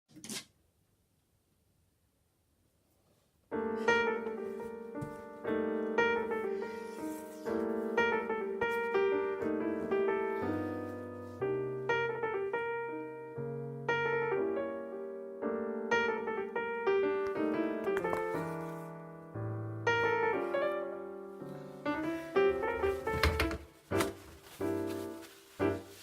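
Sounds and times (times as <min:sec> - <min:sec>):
piano music: 0:03.5 - 0:26.0.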